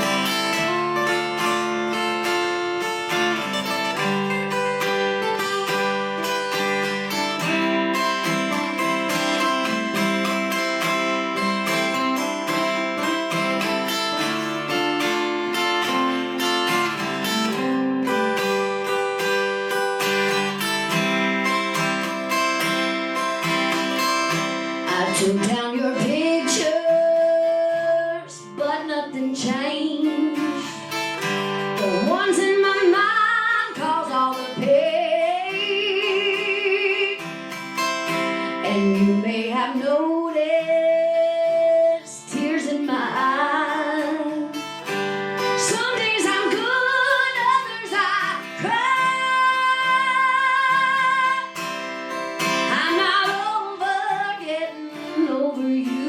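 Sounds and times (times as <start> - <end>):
strummed acoustic guitar: 0.0 - 56.0
woman singing country ballad: 0.0 - 56.0.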